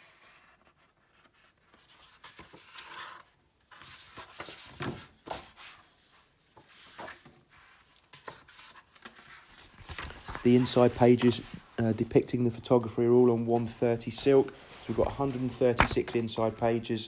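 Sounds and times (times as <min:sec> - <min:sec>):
book pages rustling: 0:00.0 - 0:16.8.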